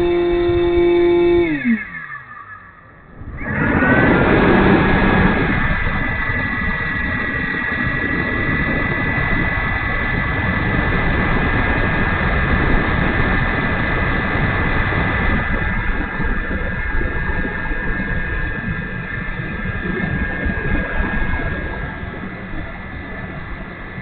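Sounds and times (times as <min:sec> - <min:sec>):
electric motor and propeller whine: 0:00.0 - 0:24.0
noisy rumble: 0:00.0 - 0:24.0.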